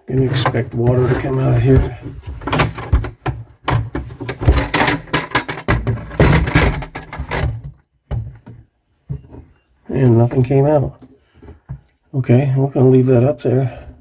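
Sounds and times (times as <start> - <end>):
plumbing parts clunking and scraping: 0.0 - 12.0.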